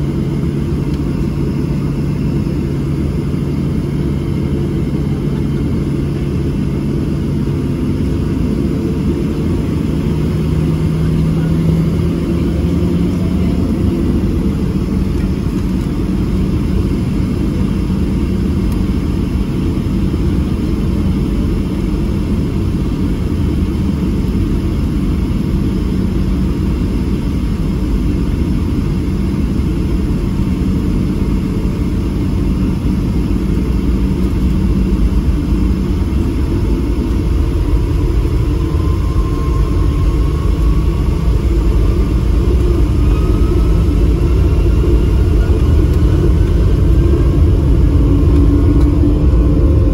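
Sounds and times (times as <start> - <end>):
jet engine whine: 0.0 - 49.9
jet engines rumbling: 0.0 - 49.9.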